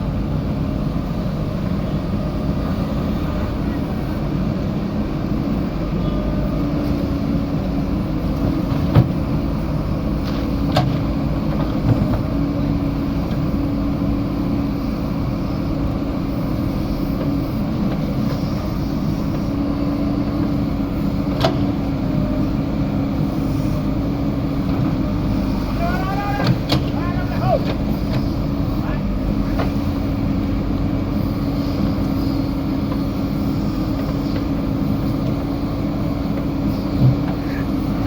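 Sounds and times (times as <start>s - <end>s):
backhoe diesel engine running: 0.0s - 38.0s.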